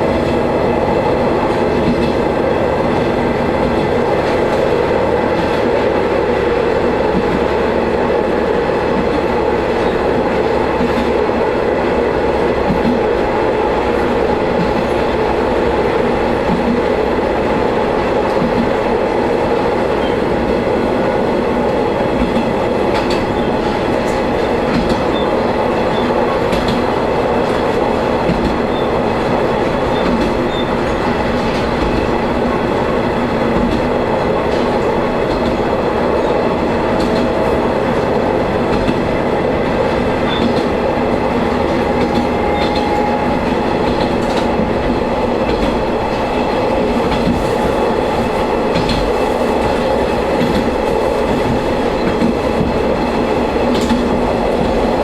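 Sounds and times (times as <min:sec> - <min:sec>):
railcar engine drone: 0:00.0 - 0:55.0.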